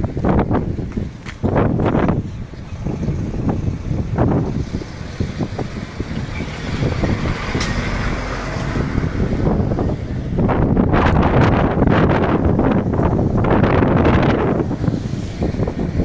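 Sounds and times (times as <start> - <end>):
wind on microphone: 0.0 - 16.0
low rumble: 1.5 - 16.0.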